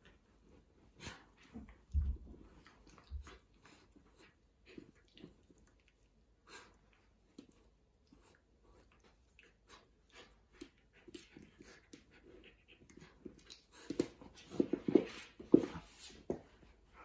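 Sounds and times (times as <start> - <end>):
dog mouthing and chewing: 1.0 - 14.9.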